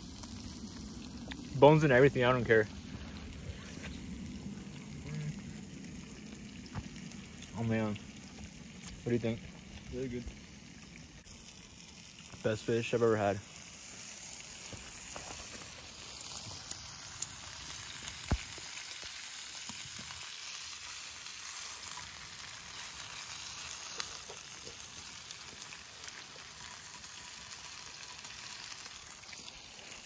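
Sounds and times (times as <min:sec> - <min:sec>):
fish sizzling in a pan: 0:00.0 - 0:30.0.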